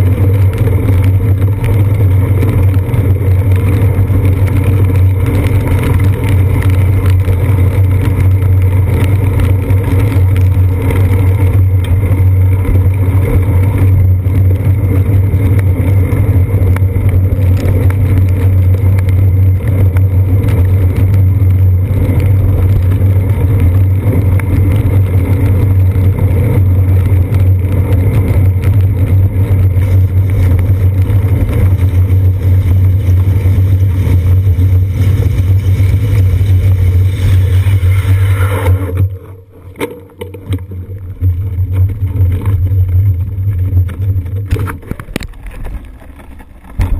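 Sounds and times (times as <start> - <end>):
bicycle riding on wet pavement: 0.0 - 46.9
road vibration and wind drone: 0.0 - 46.9.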